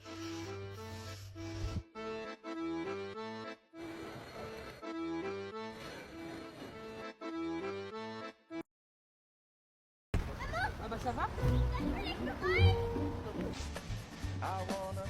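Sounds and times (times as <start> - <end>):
accordion-like music: 0.0 - 8.7, 11.3 - 14.9.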